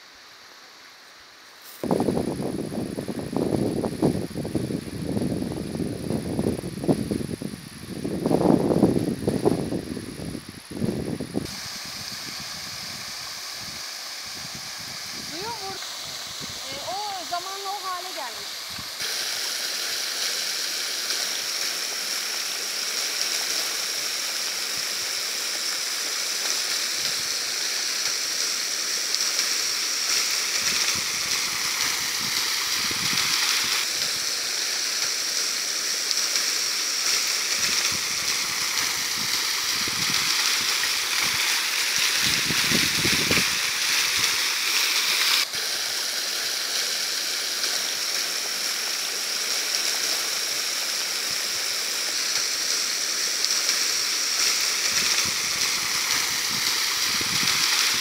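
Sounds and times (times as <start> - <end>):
waterfall splashing into stream: 11.4 - 58.0.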